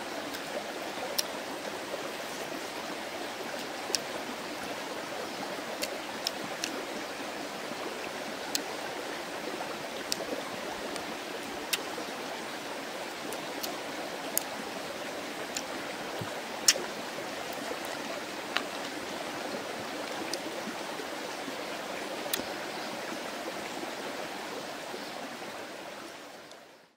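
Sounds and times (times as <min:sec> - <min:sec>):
stream rushing over stones: 0:00.0 - 0:26.5.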